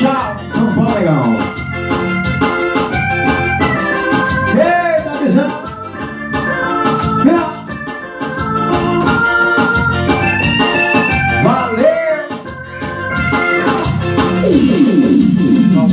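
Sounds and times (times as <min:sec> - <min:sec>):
electronic keyboard organ music: 0:00.0 - 0:15.9.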